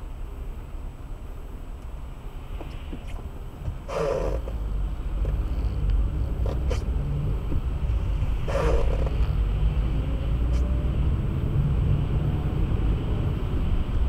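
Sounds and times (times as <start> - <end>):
car driving on road: 0.0 - 14.0.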